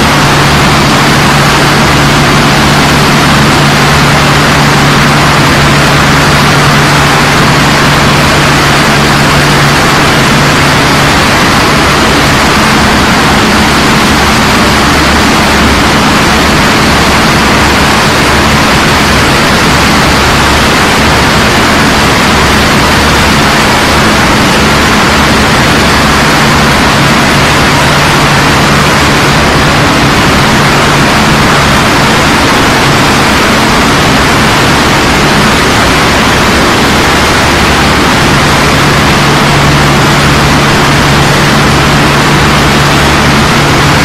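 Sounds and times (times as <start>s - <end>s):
heavy machinery running: 0.0s - 44.0s
low hum: 0.0s - 44.0s.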